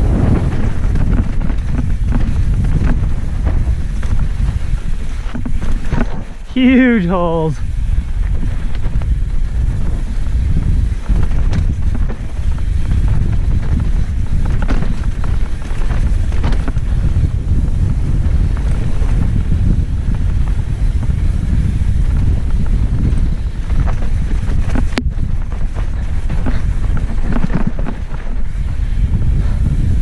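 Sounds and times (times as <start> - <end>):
bike rattling and knocking: 0.0 - 6.5, 7.1 - 30.0
tyres rumbling on dirt trail: 0.0 - 30.0
wind buffeting microphone: 0.0 - 30.0.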